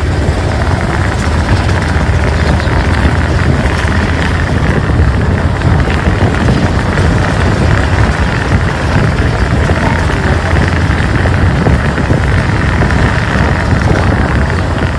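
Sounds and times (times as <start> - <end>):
motorcycle engine and road rumble: 0.0 - 14.9.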